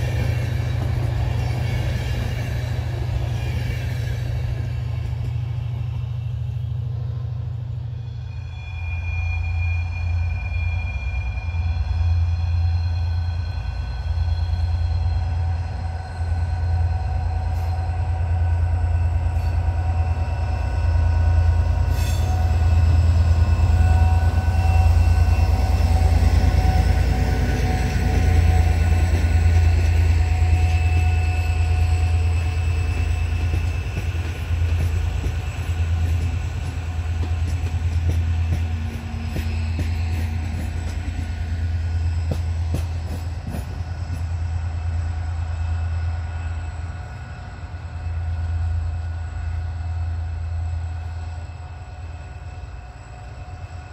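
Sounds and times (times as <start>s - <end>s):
diesel locomotive engine droning: 0.0s - 53.9s.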